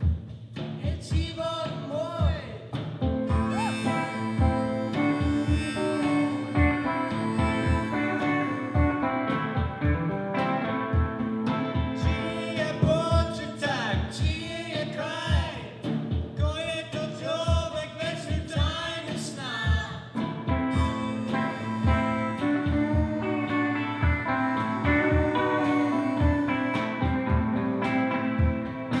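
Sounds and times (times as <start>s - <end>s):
drum beat: 0.0s - 29.0s
man and woman singing: 0.8s - 9.0s, 12.0s - 20.2s, 20.8s - 27.9s
electric guitars: 2.8s - 16.2s, 19.1s - 29.0s.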